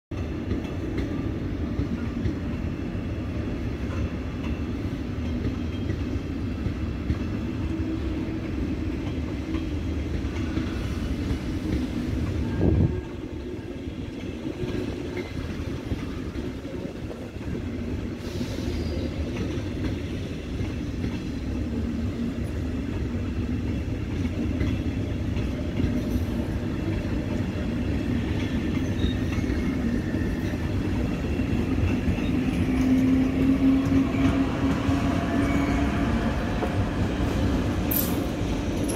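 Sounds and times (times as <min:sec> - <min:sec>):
train wheels rumbling on rails: 0:00.1 - 0:38.9.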